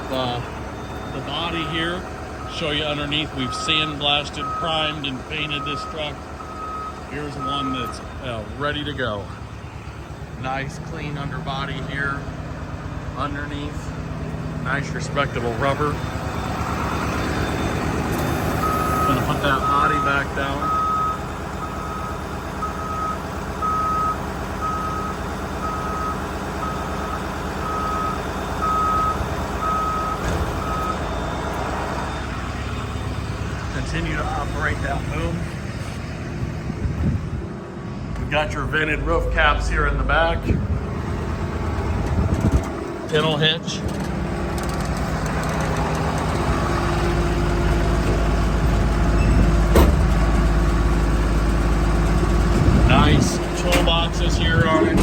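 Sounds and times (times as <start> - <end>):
truck warning alarm beeping: 0.0 - 37.5, 38.2 - 55.0
diesel engine running: 0.0 - 55.0
dump body lowering: 0.0 - 55.0.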